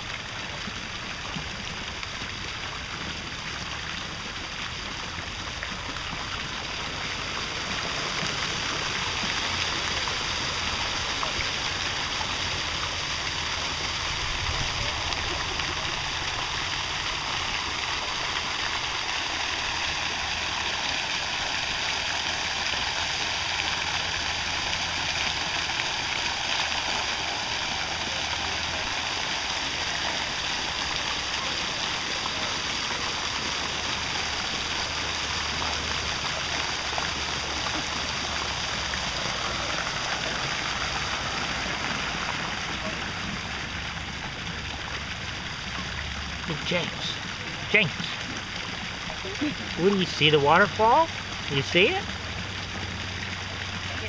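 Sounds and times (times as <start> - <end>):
fountain splashing into pool: 0.0 - 54.0.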